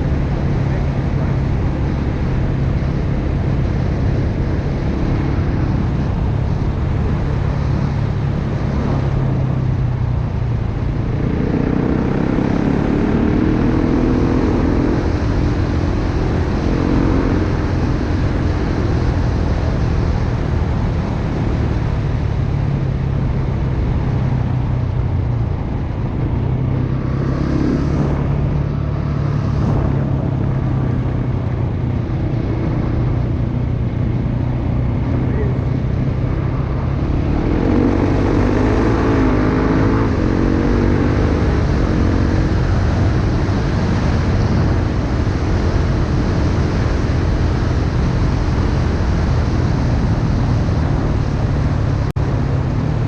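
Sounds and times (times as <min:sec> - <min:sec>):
wind noise: 0:00.0 - 0:53.0.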